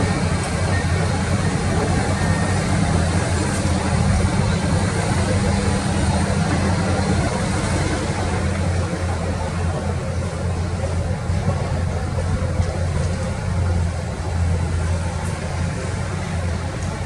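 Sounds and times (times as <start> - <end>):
excavator diesel engines running: 0.0 - 17.0.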